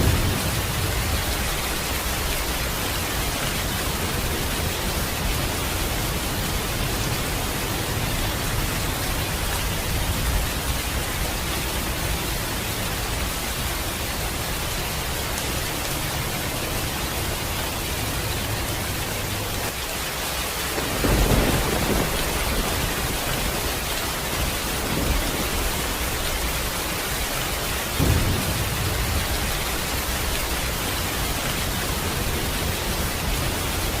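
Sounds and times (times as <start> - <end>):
thunder rumbling: 0.0 - 14.7, 20.5 - 34.0
steady rain hissing: 0.0 - 34.0.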